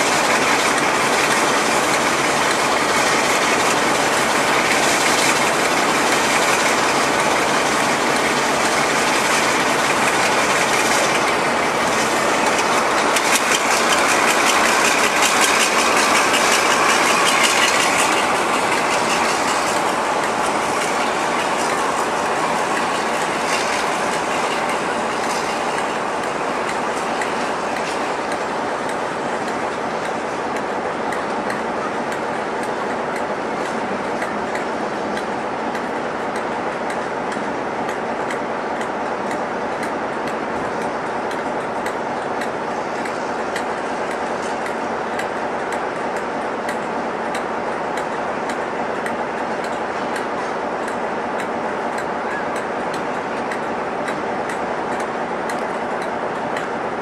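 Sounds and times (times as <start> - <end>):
locomotive diesel engines running: 0.0 - 57.0
wheels clattering over rail joints: 0.0 - 57.0.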